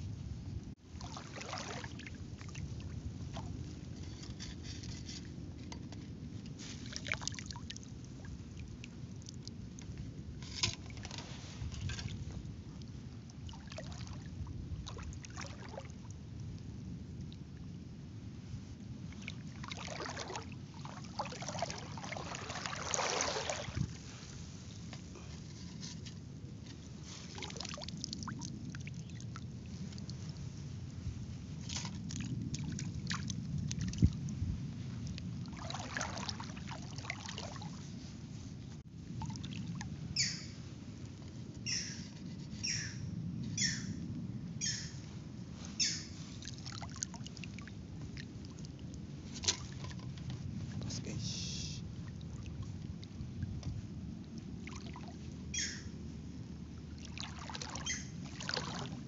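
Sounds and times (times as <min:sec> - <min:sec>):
water sloshing and splashing: 0:00.8 - 0:17.8, 0:18.6 - 0:42.8, 0:45.0 - 0:51.2, 0:51.9 - 0:59.0.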